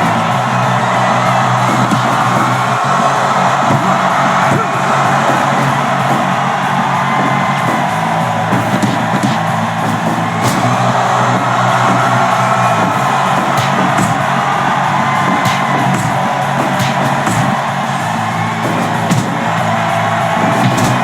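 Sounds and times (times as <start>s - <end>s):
crowd yelling: 0.0s - 21.0s
loud steady music: 0.0s - 21.0s
sharp thuds: 0.0s - 21.0s.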